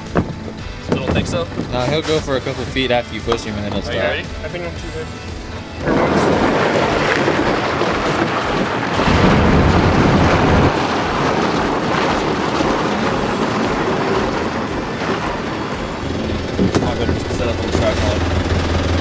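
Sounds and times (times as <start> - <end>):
plastic kayak scraping downhill: 0.0 - 19.0.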